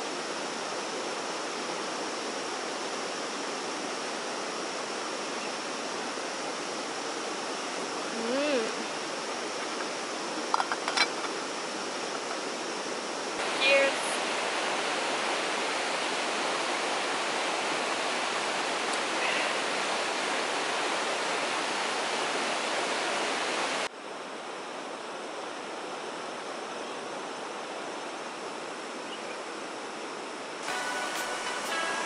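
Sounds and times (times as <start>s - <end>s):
steady even hiss: 0.0s - 32.0s.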